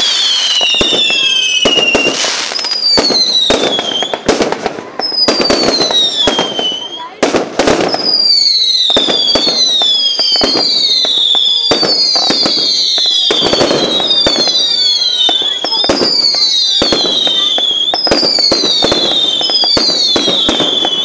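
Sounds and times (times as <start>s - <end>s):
fireworks pops and crackling bangs: 0.0s - 21.0s
whistling fireworks: 0.0s - 21.0s.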